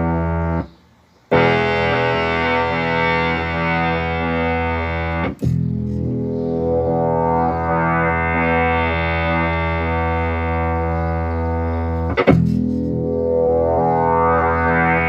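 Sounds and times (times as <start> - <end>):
synth bass notes: 1.3 - 15.0.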